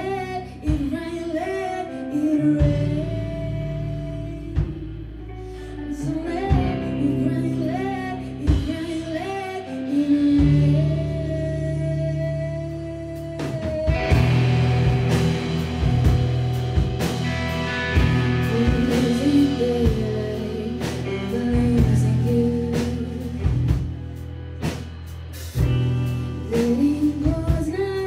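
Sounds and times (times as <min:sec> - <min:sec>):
woman singing lead: 0:00.0 - 0:16.2, 0:17.0 - 0:24.7, 0:25.6 - 0:28.0
rock band playing: 0:00.0 - 0:28.0.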